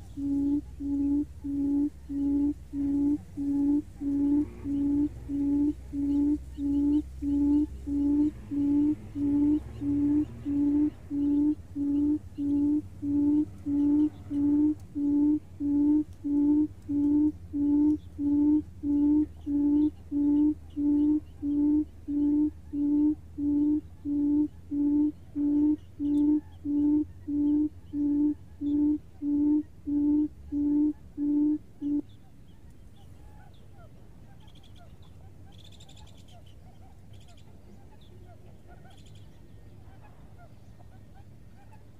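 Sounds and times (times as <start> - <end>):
low hooting bird call: 0.0 - 41.9.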